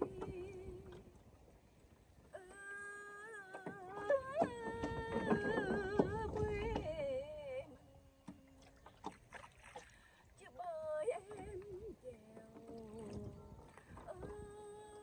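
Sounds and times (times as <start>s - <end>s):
woman singing folk melody: 0.0s - 1.1s, 2.3s - 9.0s, 10.3s - 15.0s.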